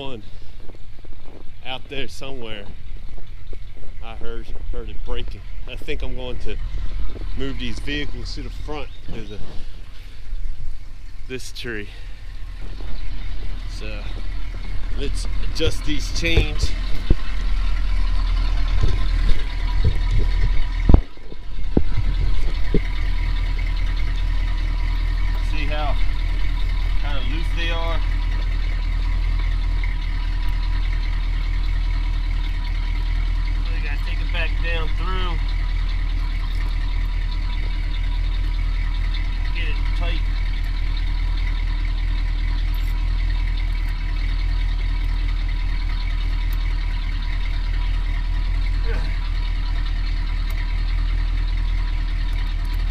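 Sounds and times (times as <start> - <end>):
low rumble: 0.0 - 52.9
tire chains knocking and clinking: 0.0 - 52.9
truck engine idling: 0.0 - 52.9.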